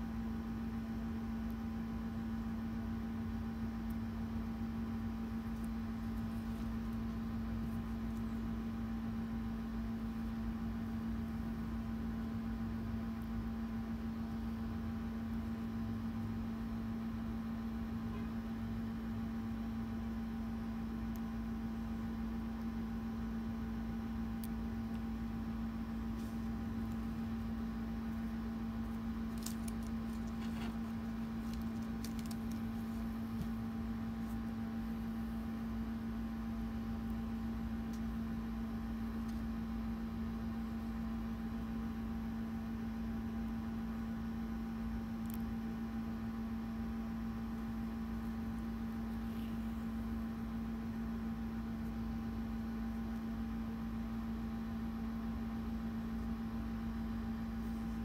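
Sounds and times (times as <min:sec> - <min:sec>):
faint room noise: 0:00.0 - 0:58.0
low electrical hum: 0:00.0 - 0:58.0.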